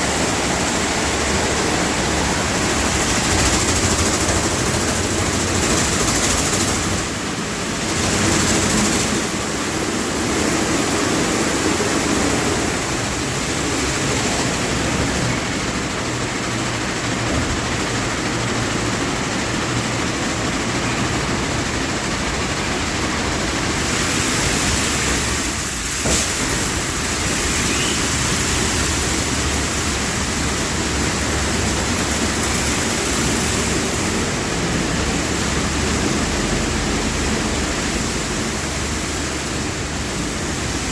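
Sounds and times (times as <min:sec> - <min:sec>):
car wash spraying water: 0:00.0 - 0:40.9.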